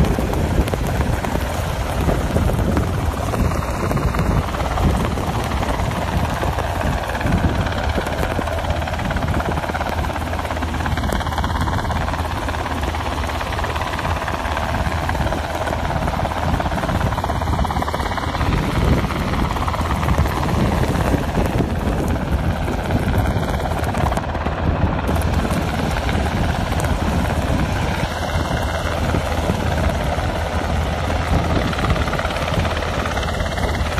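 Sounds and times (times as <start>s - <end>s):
helicopter rotor and engines: 0.0s - 33.9s.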